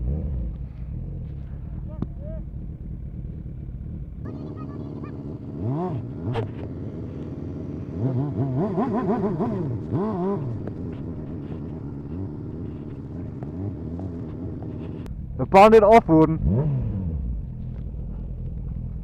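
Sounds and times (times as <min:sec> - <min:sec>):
small motorcycle engine revving: 0:00.0 - 0:15.1, 0:16.1 - 0:19.0.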